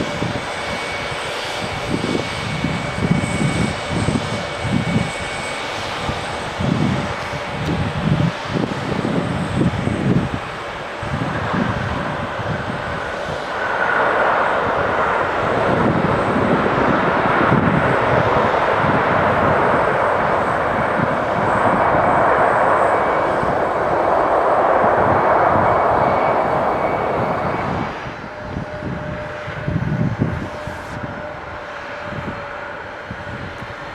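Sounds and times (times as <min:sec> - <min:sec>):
airliner engine roar: 0:00.0 - 0:33.9.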